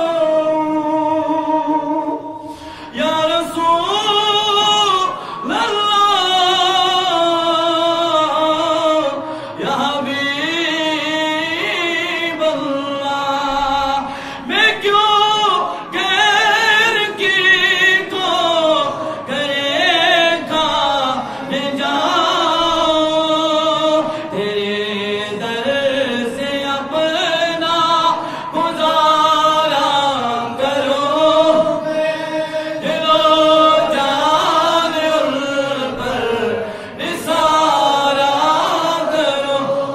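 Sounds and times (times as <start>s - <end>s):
man singing unaccompanied: 0.0s - 39.9s.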